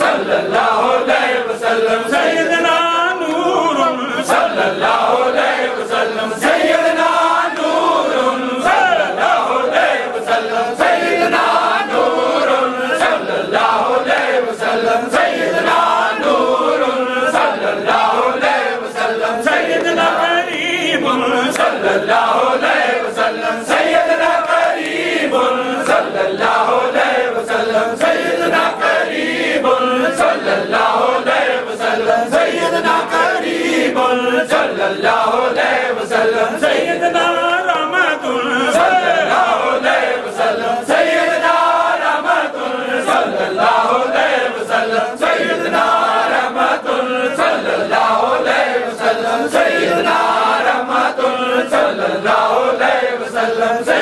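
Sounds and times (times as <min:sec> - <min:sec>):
men chanting together: 0:00.0 - 0:54.0.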